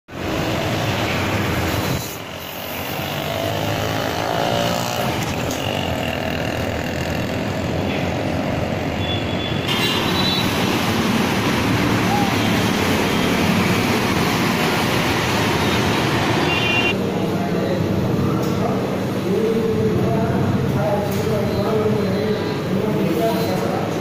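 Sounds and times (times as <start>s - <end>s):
roadside traffic noise: 0.1s - 24.0s.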